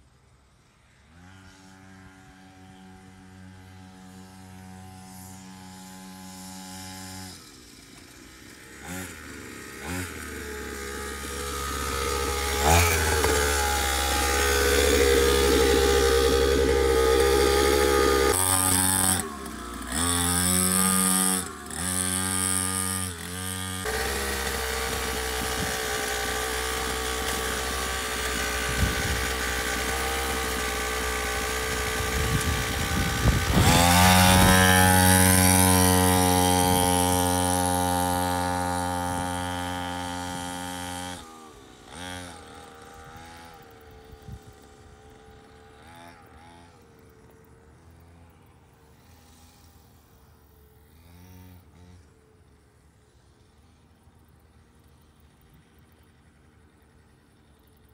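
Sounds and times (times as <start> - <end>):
dirt bike engine revving: 1.1 - 49.9, 50.8 - 52.2.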